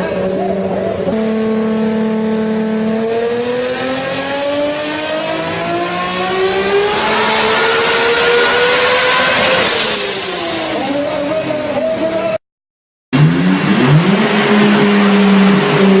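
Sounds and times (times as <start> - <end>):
car engine accelerating: 0.0 - 12.4, 13.2 - 16.0.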